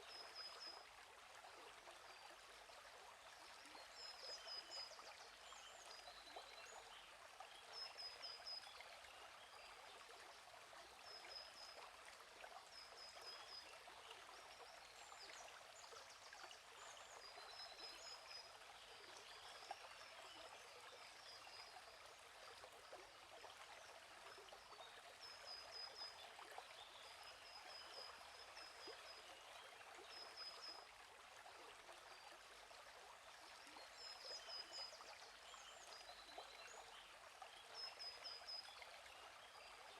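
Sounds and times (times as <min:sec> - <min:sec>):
gentle stream flowing: 0:00.0 - 0:39.9.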